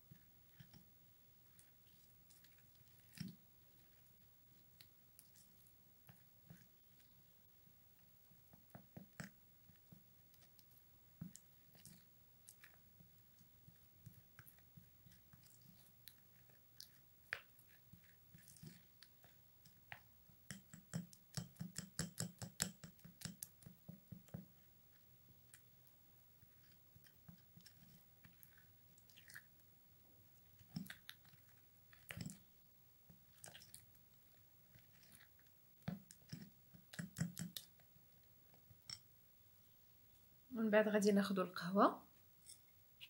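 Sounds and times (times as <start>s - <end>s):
spoon stirring wet paste in bowl: 0.0s - 39.2s.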